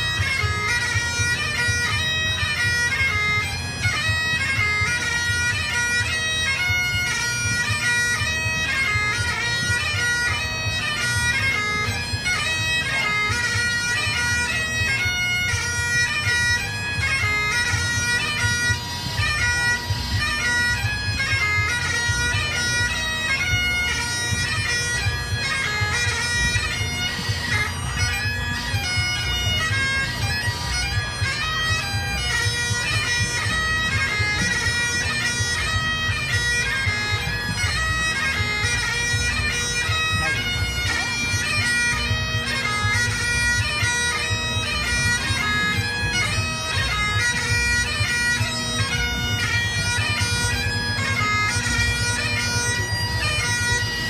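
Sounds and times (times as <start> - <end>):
bagpipe playing dance tune: 0.0 - 54.0.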